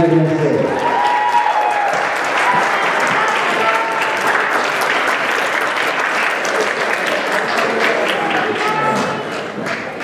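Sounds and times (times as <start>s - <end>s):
audience applauding: 0.1s - 10.0s.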